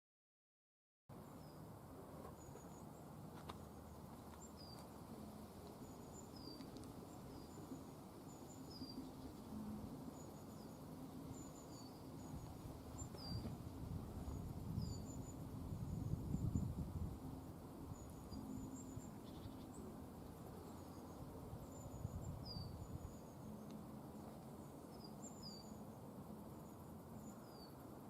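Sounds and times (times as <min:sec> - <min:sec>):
small bird chirping: 0:02.2 - 0:17.2, 0:17.8 - 0:27.8.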